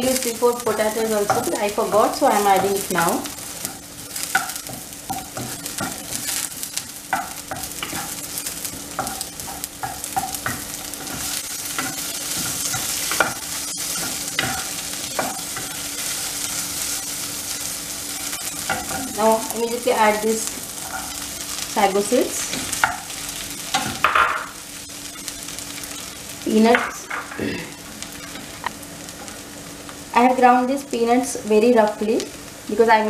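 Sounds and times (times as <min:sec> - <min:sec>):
oil sizzling: 0:00.0 - 0:33.0.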